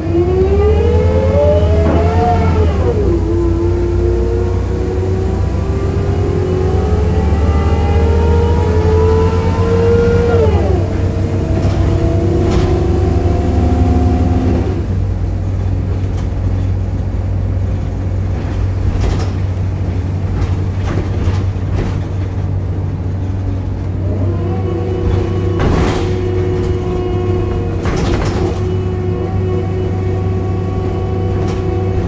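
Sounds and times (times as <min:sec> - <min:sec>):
bus driveline groaning: 0:00.0 - 0:32.0
bus engine rumble: 0:00.0 - 0:32.0
bus body rattles: 0:01.7 - 0:06.4, 0:08.5 - 0:32.0.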